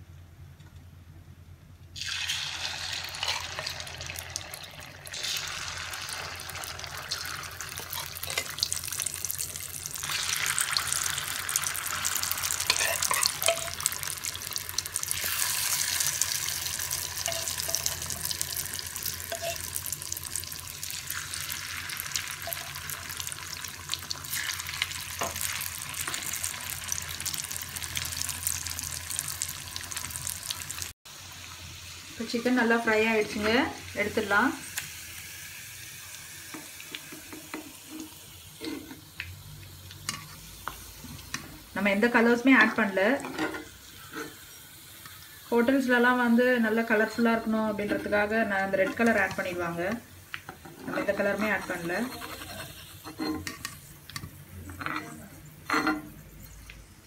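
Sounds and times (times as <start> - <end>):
chicken deep-frying in oil: 2.0 - 57.0.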